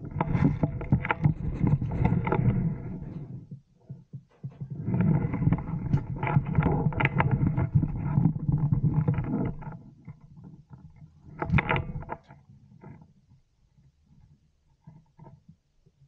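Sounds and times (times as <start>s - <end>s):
clothing rubbing on microphone: 0.0s - 13.1s.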